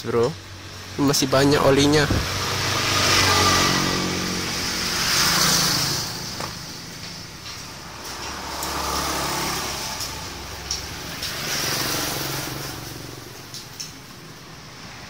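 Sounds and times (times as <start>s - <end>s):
traffic passing by: 0.0s - 15.0s.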